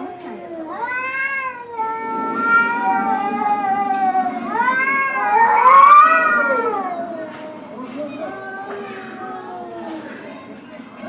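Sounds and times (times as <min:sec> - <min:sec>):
cats yowling in a fight: 0:00.0 - 0:10.3.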